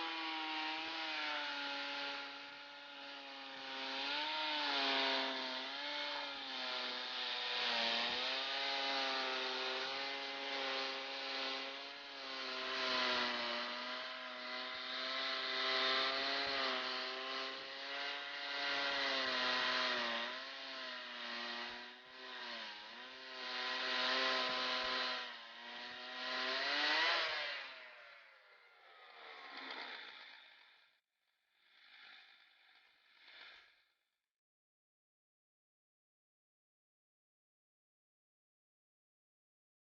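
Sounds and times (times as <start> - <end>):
chainsaw engine driving sawmill: 0.0 - 31.0, 31.6 - 34.0.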